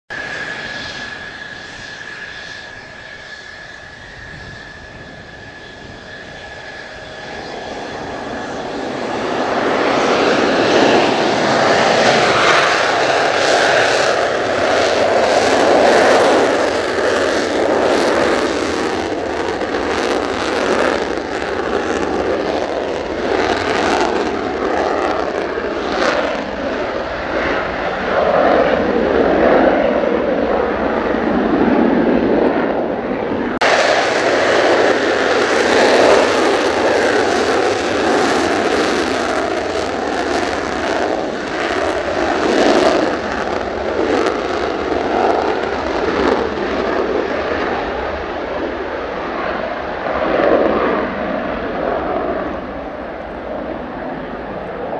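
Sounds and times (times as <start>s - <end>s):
jet engine roar: 0.1s - 54.9s.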